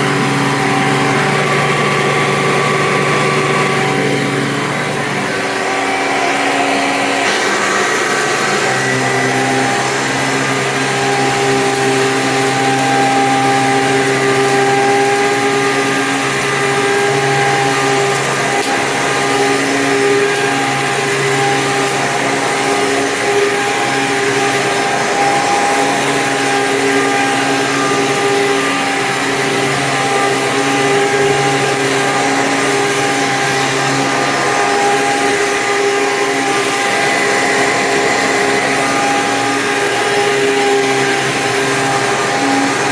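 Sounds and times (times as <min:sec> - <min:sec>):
upright vacuum cleaner running: 0:00.0 - 0:42.9.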